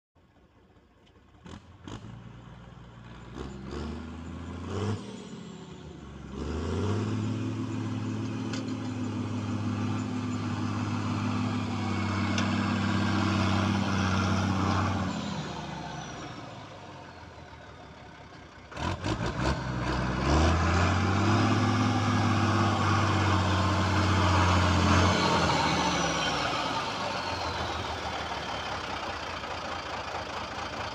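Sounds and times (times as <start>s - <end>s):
diesel tractor engine revving: 1.3s - 30.9s.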